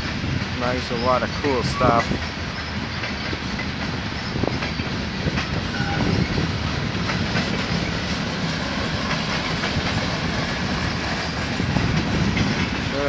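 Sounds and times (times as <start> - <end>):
train rumble: 0.0 - 13.0
wheels clicking over rail joints: 0.0 - 13.0.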